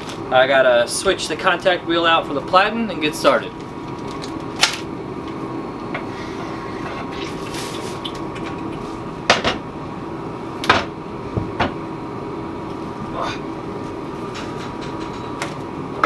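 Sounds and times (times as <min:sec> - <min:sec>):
hum of shop machinery: 0:00.0 - 0:16.0.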